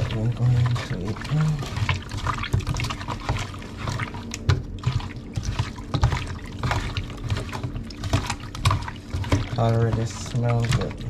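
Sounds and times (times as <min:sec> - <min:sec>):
fish mixed in egg squelching: 0:00.0 - 0:11.0.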